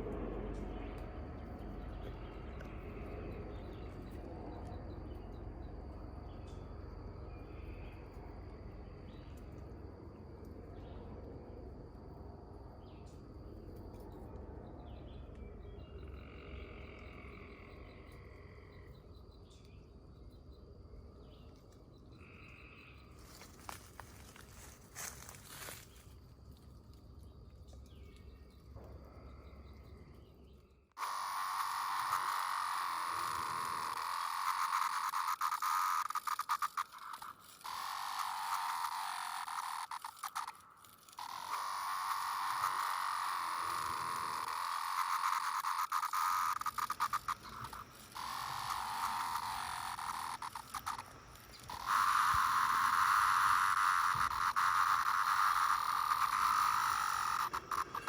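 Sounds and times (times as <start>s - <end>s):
cicadas droning in chorus: 0.0s - 58.0s.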